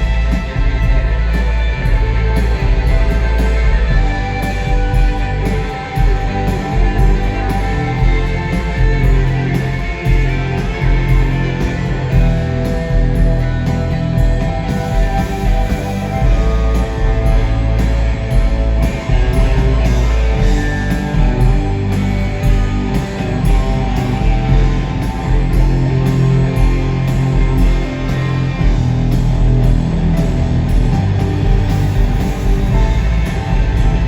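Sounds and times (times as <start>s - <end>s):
electric guitar: 0.0s - 34.0s
rock band playing loudly: 0.0s - 34.0s.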